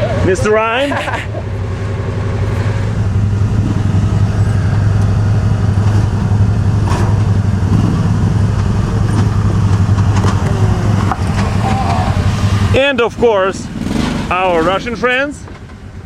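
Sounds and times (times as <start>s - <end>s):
utility vehicle engine running: 0.0s - 16.0s.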